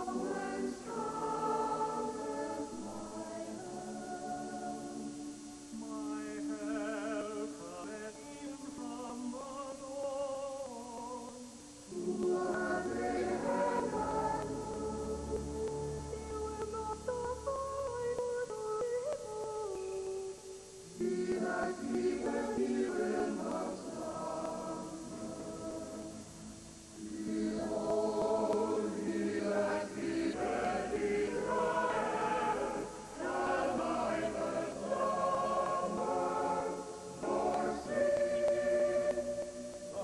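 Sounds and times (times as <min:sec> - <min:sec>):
choir singing sustained chords: 0:00.0 - 0:40.0.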